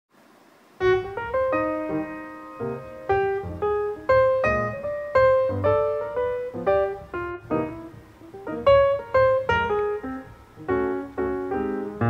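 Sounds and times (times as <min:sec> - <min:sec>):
piano music: 0:00.8 - 0:12.0.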